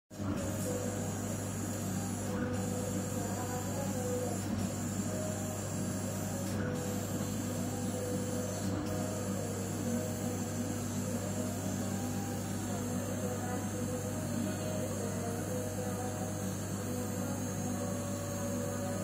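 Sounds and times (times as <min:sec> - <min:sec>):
steady low hum: 0:00.2 - 0:19.0.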